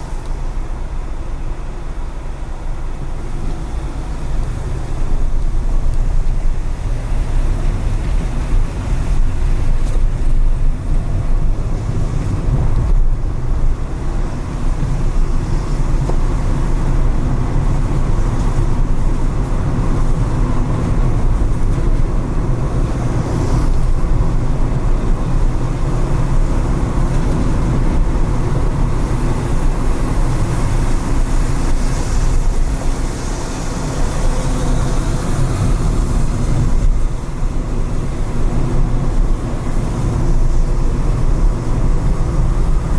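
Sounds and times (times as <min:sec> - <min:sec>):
car engine and road rumble: 0:00.0 - 0:42.9
tyres on wet pavement: 0:00.0 - 0:42.9.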